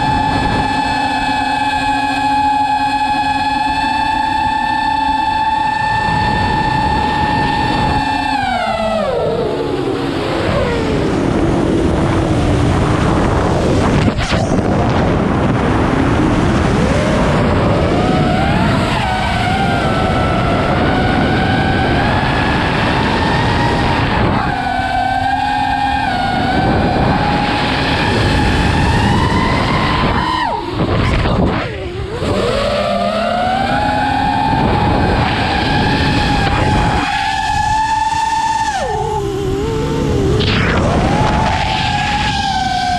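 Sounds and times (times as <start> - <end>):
wind rushing on microphone: 0.0 - 1.5, 5.5 - 42.9
drone motors whining: 0.0 - 42.9.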